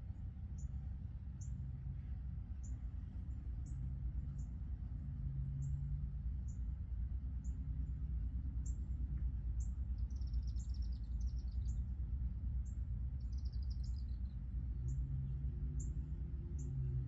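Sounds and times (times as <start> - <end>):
steady low rumble: 0.0 - 17.0
songbirds chirping: 0.2 - 17.0.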